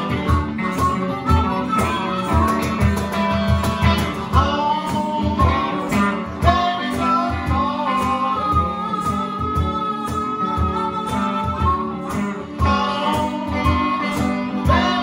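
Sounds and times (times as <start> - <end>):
electric guitar: 0.0 - 15.0
harmonica wailing: 0.0 - 15.0
steady cajon beat: 0.0 - 15.0.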